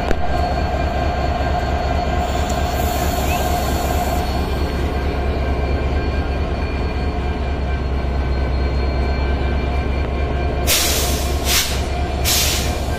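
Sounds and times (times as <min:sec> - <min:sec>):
diesel locomotive engine rumbling: 0:00.0 - 0:12.9.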